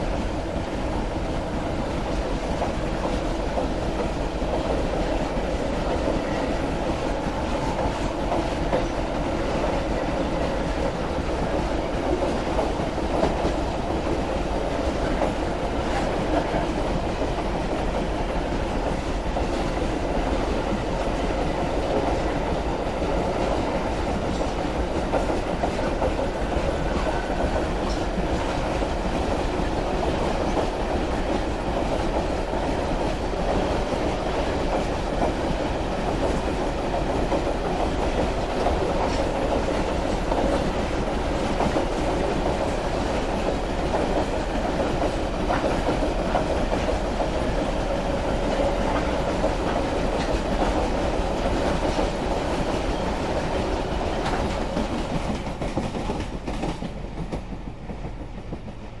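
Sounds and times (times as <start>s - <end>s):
steel wheels running on rails: 0.0s - 59.0s.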